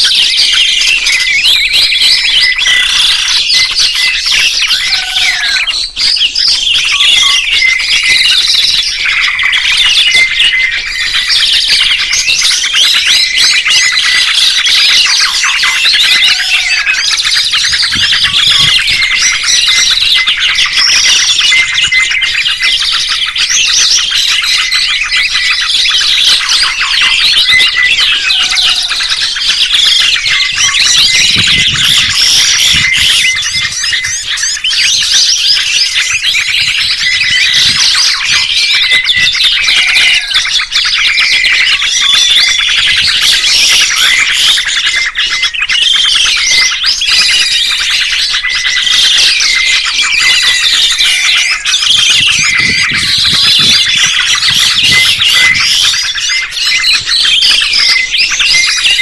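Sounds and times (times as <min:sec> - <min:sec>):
gliding bird whistles: 0:00.0 - 0:59.0
songbirds chirping: 0:00.0 - 0:59.0.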